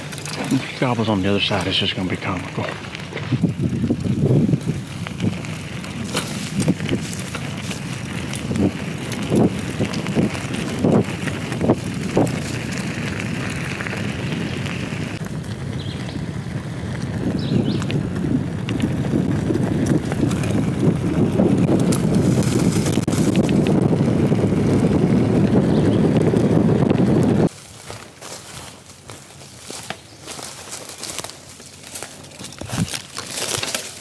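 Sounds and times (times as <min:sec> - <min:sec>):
bicycle tyres rolling: 0:00.0 - 0:34.0
wind rushing over microphone: 0:00.7 - 0:27.5, 0:32.6 - 0:33.0.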